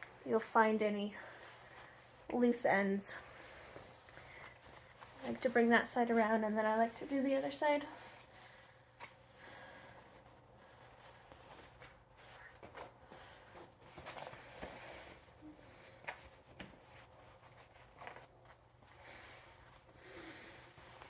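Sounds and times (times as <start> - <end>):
fabric straps rustling: 0.0 - 21.0.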